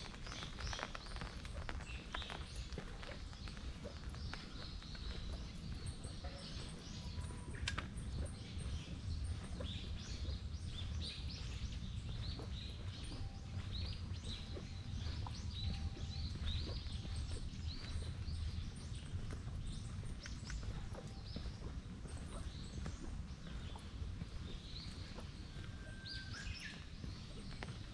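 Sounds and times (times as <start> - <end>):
birds chirping: 0.0 - 27.9
low outdoor rumble: 0.0 - 27.9.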